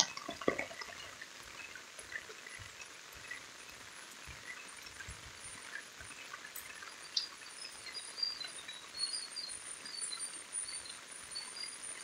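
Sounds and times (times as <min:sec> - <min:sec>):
rain falling on foliage and road: 0:00.0 - 0:12.0.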